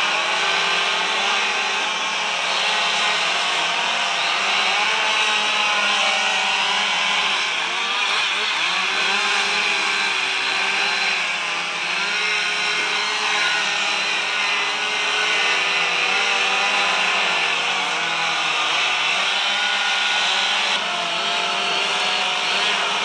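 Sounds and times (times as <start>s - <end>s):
chainsaws cutting wood: 0.0s - 23.0s.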